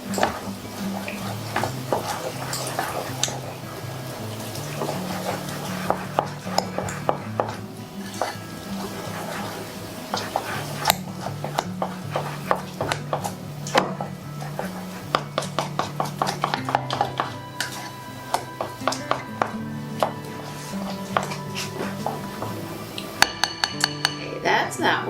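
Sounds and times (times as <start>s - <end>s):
utensil scraping a jar: 0.1s - 24.2s.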